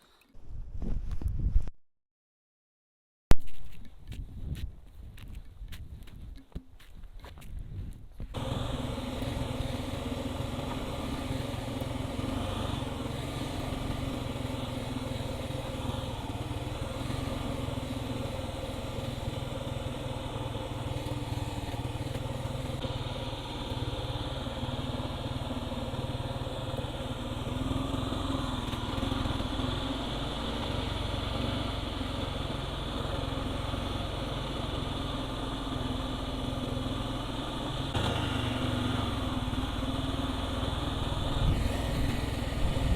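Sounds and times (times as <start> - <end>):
motorcycle engine running: 8.2 - 42.9.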